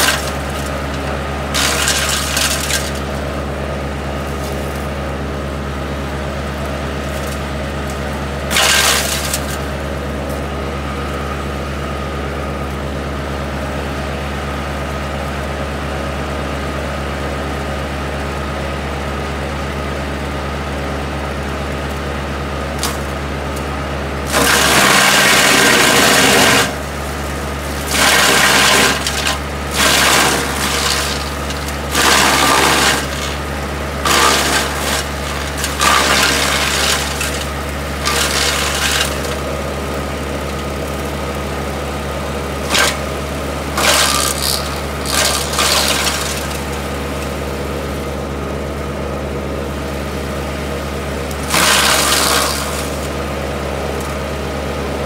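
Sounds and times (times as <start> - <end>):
tractor engine running: 0.0 - 55.0
wood chipper chipping branches: 0.0 - 55.0.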